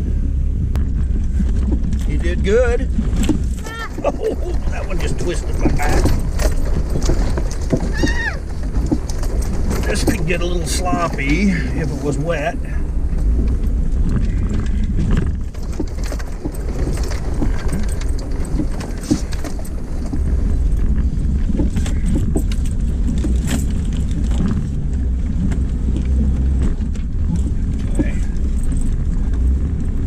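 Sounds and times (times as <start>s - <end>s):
body and gear clanking and rattling: 0.0s - 30.0s
engine low rumble: 0.0s - 30.0s.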